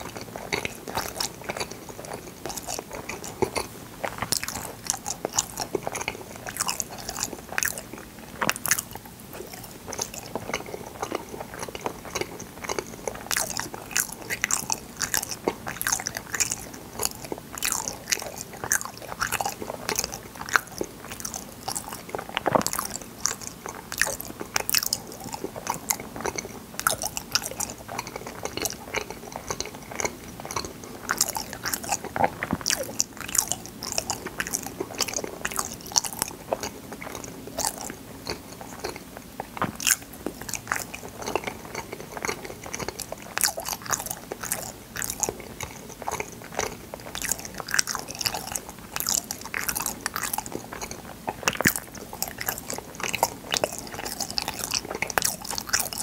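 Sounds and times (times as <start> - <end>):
chewing jelly: 0.0 - 56.0.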